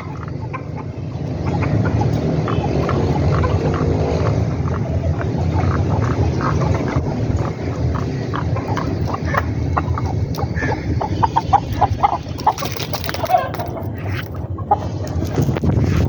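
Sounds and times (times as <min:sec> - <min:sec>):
chickens clucking: 0:00.0 - 0:16.0
steady low rumble: 0:00.0 - 0:16.0.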